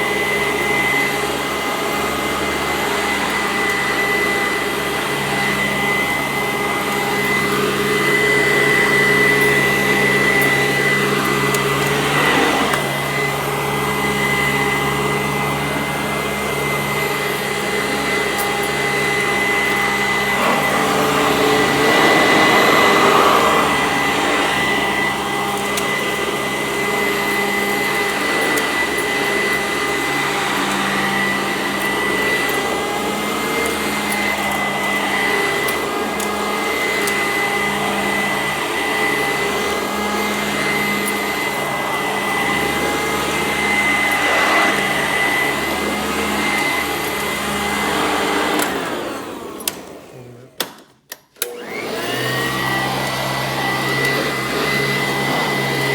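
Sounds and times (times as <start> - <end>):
vacuum cleaner running on carpet: 0.0 - 50.7, 51.4 - 55.9.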